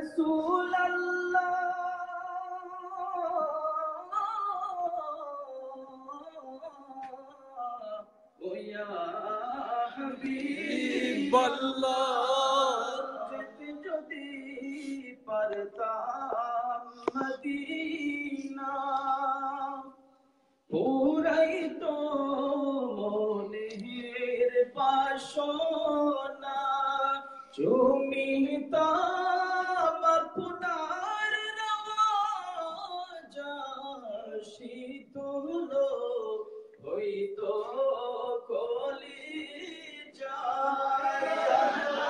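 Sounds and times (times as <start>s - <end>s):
men singing devotional song: 0.0s - 20.0s, 20.7s - 42.0s.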